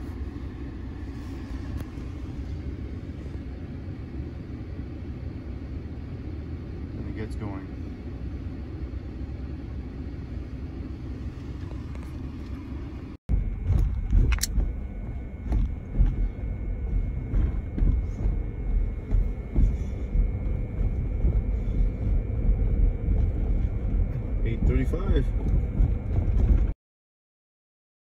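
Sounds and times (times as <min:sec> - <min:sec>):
road and drivetrain rumble: 0:00.0 - 0:26.8.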